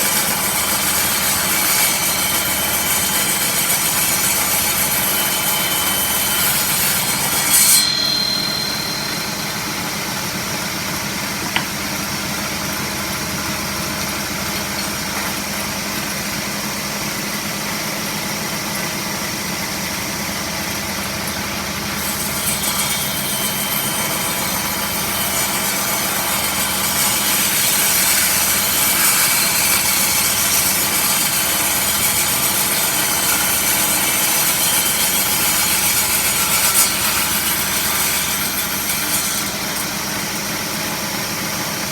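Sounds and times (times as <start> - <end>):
power saw cutting wood: 0.0 - 41.9.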